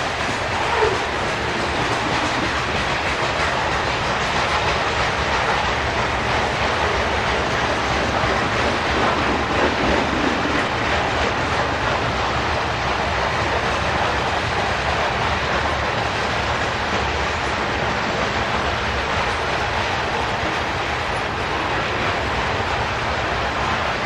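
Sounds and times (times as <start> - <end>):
freight train rolling past: 0.0 - 24.0
steel wheels on rails: 0.0 - 24.0.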